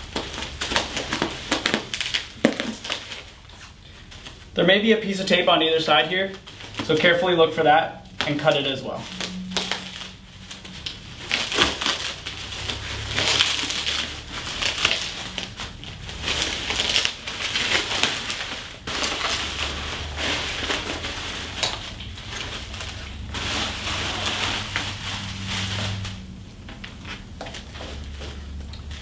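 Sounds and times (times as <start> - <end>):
bubble wrap crinkling: 0.0 - 29.0.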